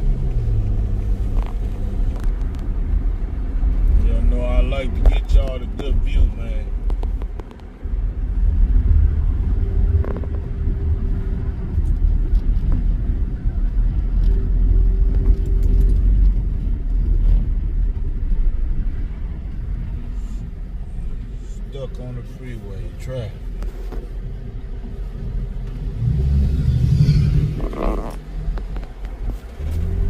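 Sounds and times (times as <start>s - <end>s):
engine and road noise in car: 0.0s - 30.0s.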